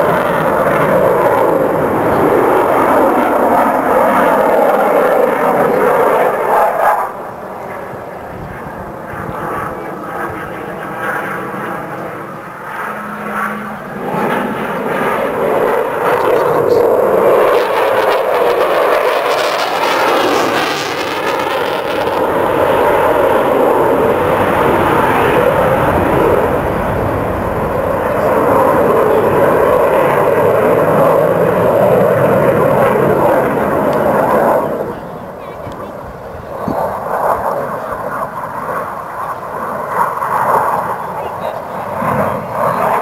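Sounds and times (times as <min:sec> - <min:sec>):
jet engine roar passing: 0:00.0 - 0:43.0.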